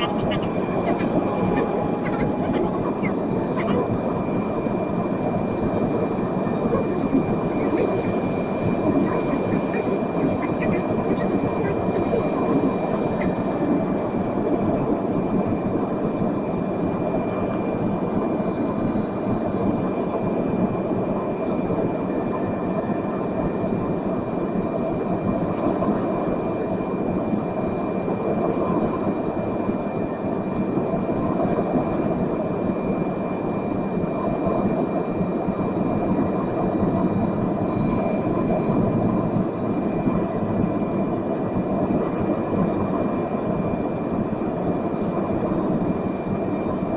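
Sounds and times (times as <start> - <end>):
faint high whine: 0.0 - 46.9
jet engine and airflow noise: 0.0 - 46.9.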